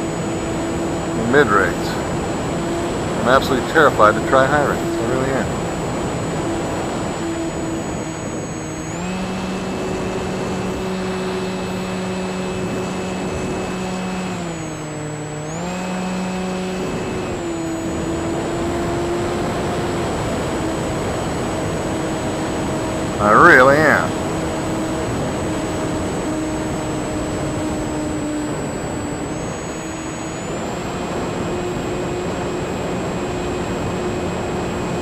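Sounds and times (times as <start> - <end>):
model plane electric motor buzzing: 0.0 - 35.0.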